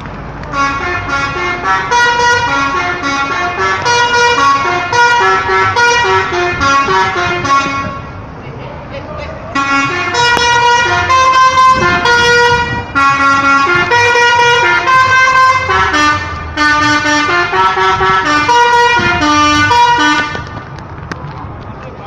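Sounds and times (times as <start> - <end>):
musical bus horn playing tune: 0.4 - 8.2, 9.5 - 20.6.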